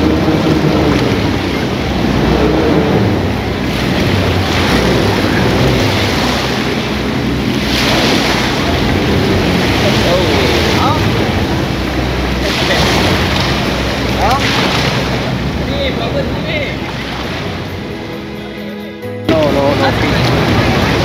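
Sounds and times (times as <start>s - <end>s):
wind buffeting microphone: 0.0s - 18.2s
low rumble: 0.0s - 18.7s
sea waves washing: 0.0s - 21.0s.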